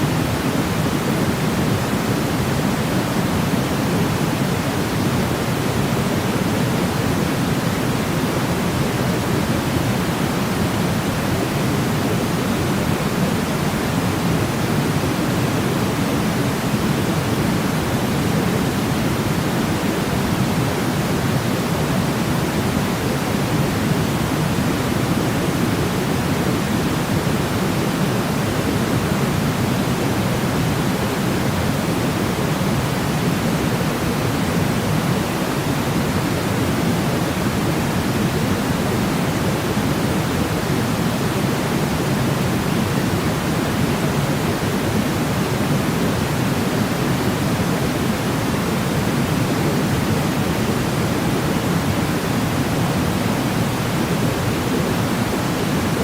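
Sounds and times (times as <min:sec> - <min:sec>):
steady white noise hiss: 0:00.0 - 0:56.0.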